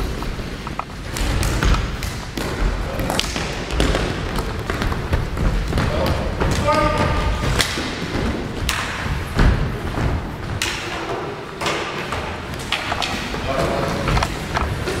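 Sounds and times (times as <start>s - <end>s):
plastic sticks hitting ball: 0.7s - 9.6s, 10.4s - 15.0s.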